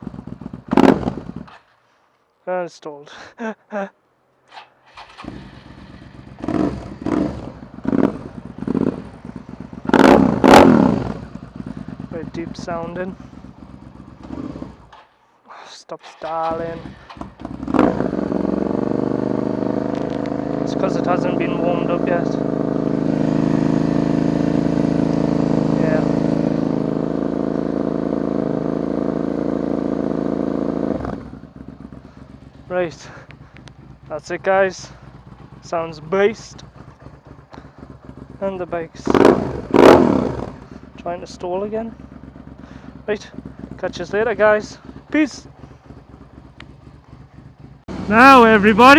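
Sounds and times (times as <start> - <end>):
motorcycle engine revving: 0.0 - 1.8, 4.5 - 15.3, 16.2 - 48.9.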